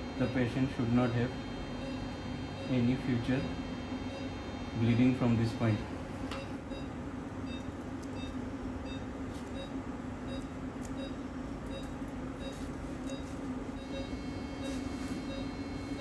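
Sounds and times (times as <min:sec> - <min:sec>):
equipment humming: 0:00.0 - 0:16.0
patient monitor beeps: 0:00.1 - 0:05.2, 0:06.4 - 0:16.0.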